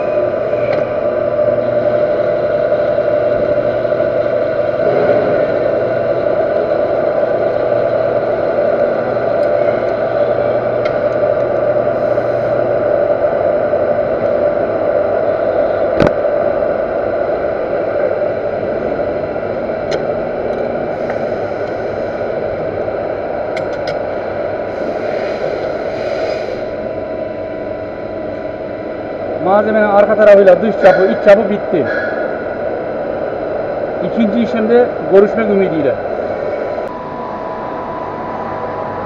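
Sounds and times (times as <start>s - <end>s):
metal lathe machining: 0.0s - 39.0s.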